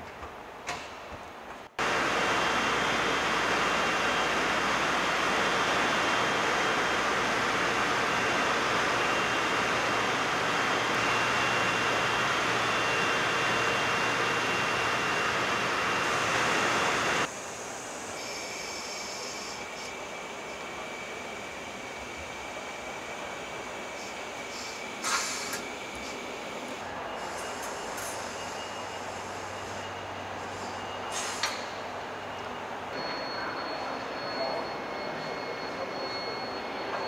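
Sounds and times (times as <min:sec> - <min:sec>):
steady hum with high tones: 0:01.8 - 0:37.0.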